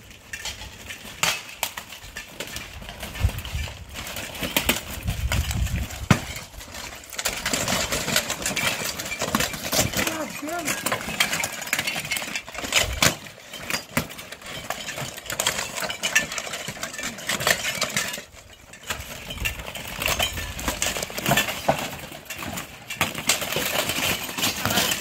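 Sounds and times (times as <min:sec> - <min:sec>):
plate armor clanking and scraping: 0:00.0 - 0:25.0.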